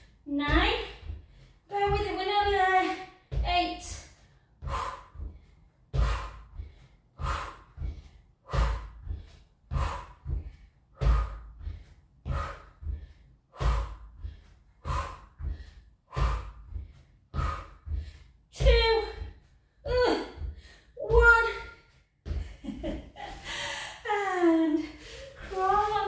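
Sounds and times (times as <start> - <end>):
woman breathing hard: 0.8 - 1.7, 3.0 - 26.0.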